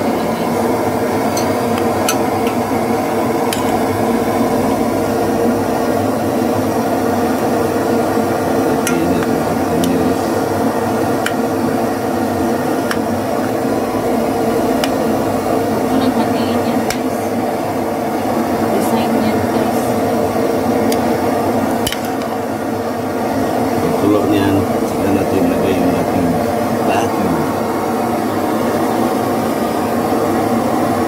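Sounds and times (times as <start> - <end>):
sauce boiling in a pan: 0.4 - 18.8, 19.4 - 31.0.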